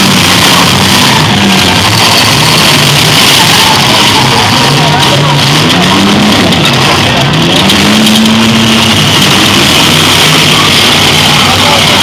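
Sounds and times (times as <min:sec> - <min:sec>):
car engines revving loudly: 0:00.0 - 0:12.0
steady noisy din: 0:00.0 - 0:12.0.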